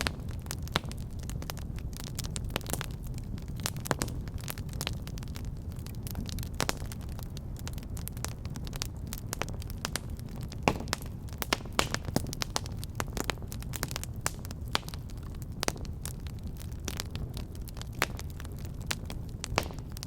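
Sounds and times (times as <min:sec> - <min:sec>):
low rumble of flame: 0:00.0 - 0:20.0
wood fire crackling and popping: 0:00.0 - 0:20.0.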